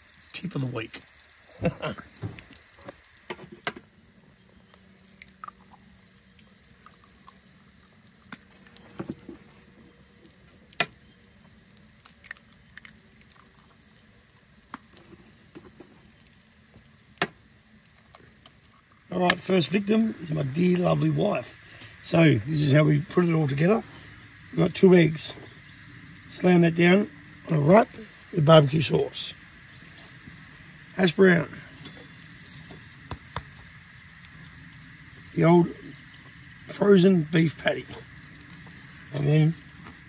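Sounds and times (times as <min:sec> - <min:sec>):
bacon sizzling on hotplate: 0:00.0 - 0:40.0.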